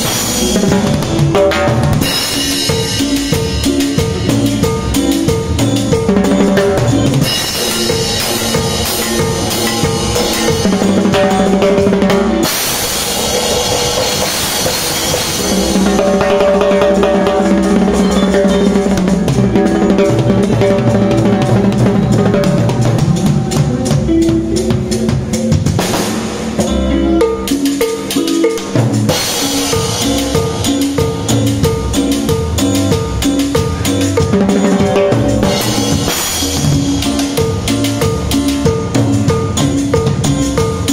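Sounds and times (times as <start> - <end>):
pitched instruments holding notes: 0.0 - 25.8, 26.5 - 40.9
drum kit groove: 0.0 - 40.9.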